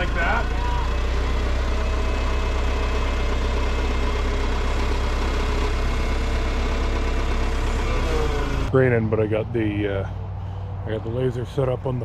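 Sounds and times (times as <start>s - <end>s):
heavy equipment engine idling: 0.0s - 12.0s.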